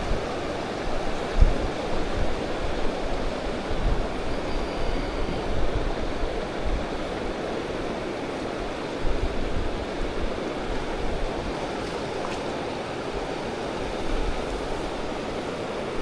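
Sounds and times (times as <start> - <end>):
stream rapids roaring: 0.0 - 16.0
wind rumble on microphone: 0.0 - 16.0.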